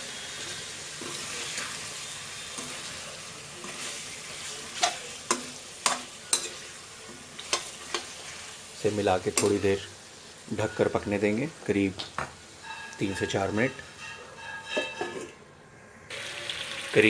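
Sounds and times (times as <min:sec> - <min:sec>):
food sizzling in frying pan: 0:00.0 - 0:15.5, 0:16.1 - 0:17.0.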